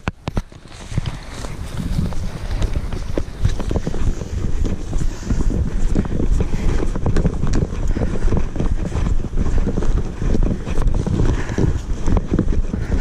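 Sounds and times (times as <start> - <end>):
footsteps in dry grass: 0.0 - 13.0
wind buffeting microphone: 0.0 - 13.0.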